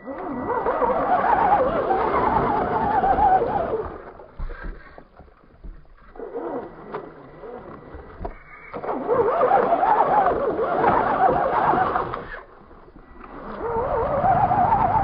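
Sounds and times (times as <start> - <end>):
electric motor and gears whining: 0.0 - 4.9, 5.8 - 15.0.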